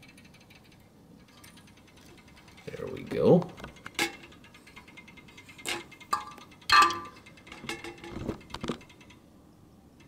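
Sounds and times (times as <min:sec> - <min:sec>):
light metallic clinks: 0:00.0 - 0:08.1.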